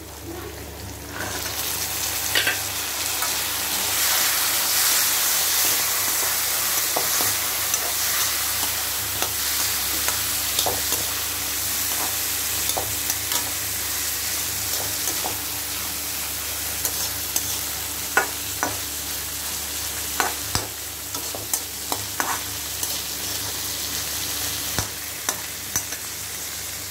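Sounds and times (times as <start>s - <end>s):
food sizzling in hot oil: 0.8s - 26.9s.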